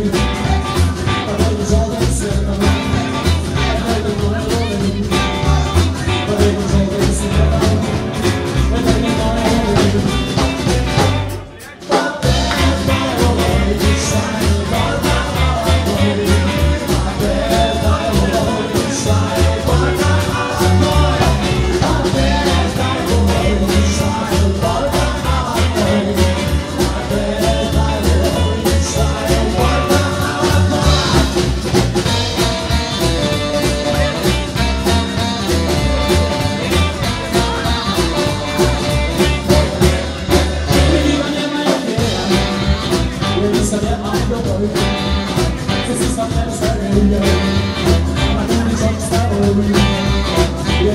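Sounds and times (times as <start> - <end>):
man singing into a microphone: 0.0 - 38.4, 39.2 - 50.9
live band playing upbeat music: 0.0 - 50.9.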